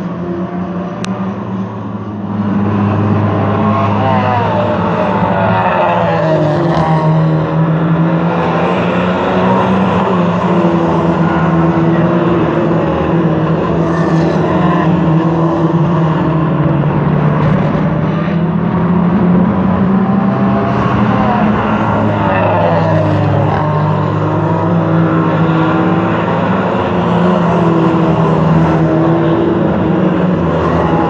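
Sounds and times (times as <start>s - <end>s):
race car engines at high revs: 0.0s - 31.0s.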